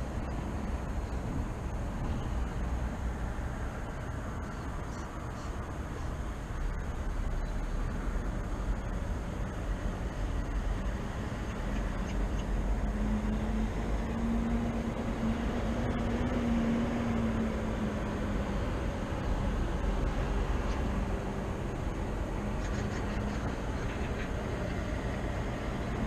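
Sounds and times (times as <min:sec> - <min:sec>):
city traffic rumble: 0:00.0 - 0:26.0
vehicle engine hum: 0:00.0 - 0:26.0.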